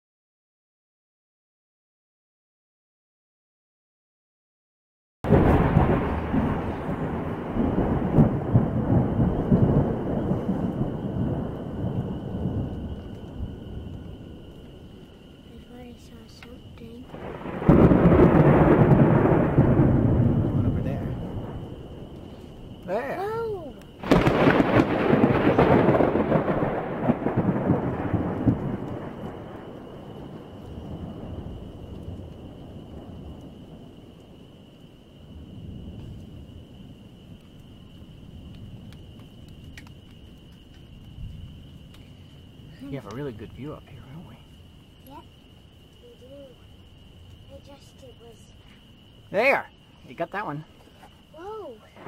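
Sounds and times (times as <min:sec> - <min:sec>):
thunder rumbling: 0:05.2 - 0:52.0.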